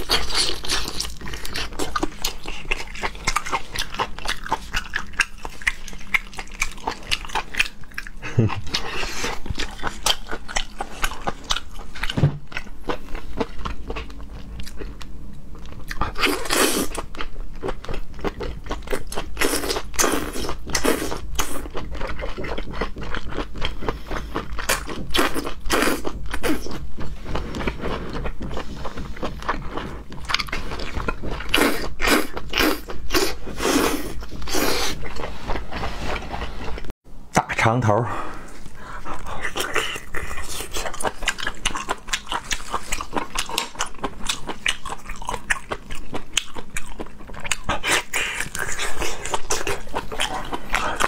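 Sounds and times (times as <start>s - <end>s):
wet chewing and sucking: 0.0s - 15.0s, 15.6s - 36.9s, 38.6s - 51.0s.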